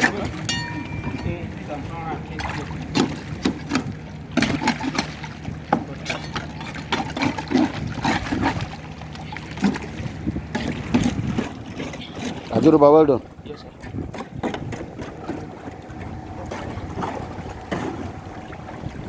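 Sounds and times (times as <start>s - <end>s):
knocks and splashes: 0.0s - 12.9s, 13.5s - 19.0s.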